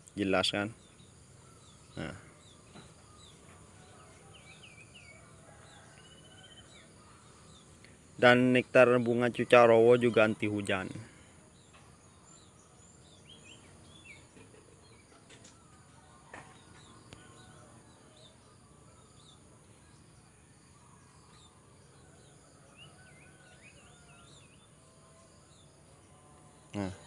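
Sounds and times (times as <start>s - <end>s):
bird chirps: 0.0s - 27.0s
steady high-pitched hiss: 0.0s - 27.0s.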